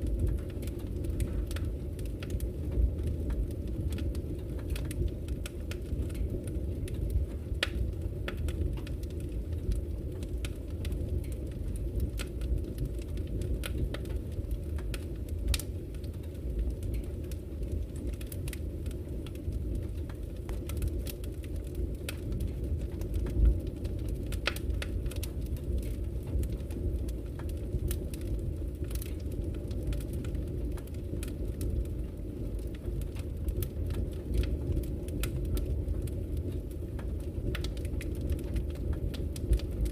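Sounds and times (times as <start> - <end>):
fire crackling and popping: 0.0 - 39.9
fire low rumble: 0.0 - 39.9.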